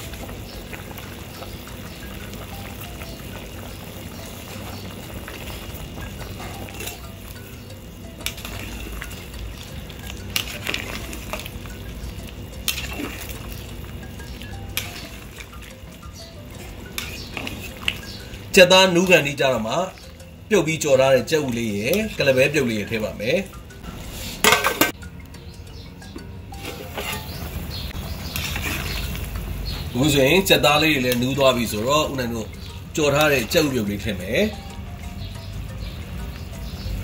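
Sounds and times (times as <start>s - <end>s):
pot boiling and bubbling: 0.0s - 37.0s.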